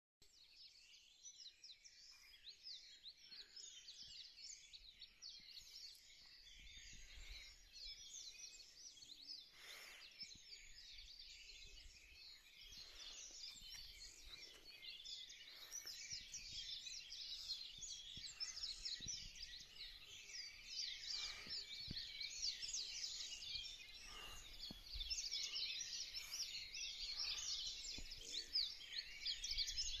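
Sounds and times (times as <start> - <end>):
dense bird chorus: 0.2 - 30.0.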